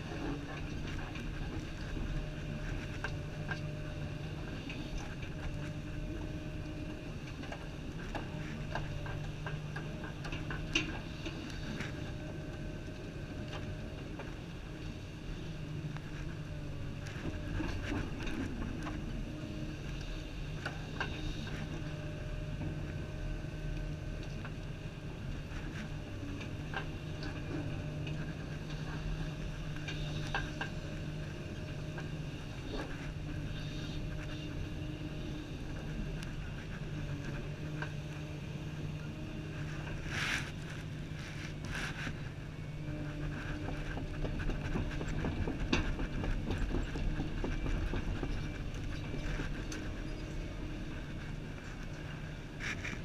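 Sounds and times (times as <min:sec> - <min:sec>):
excavator diesel engine running: 0:00.0 - 0:52.6.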